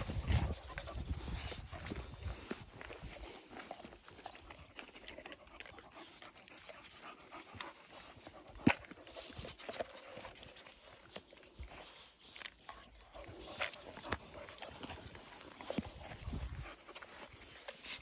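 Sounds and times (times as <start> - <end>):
puppies sniffing and scuffling: 0.0 - 18.0.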